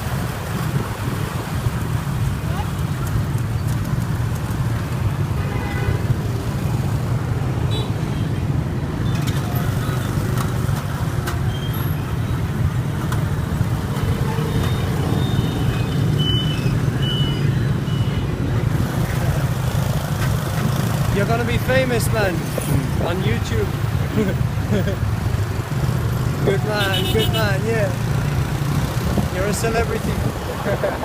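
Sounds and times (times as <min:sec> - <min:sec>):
motorbike road and wind rumble: 0:00.0 - 0:31.0.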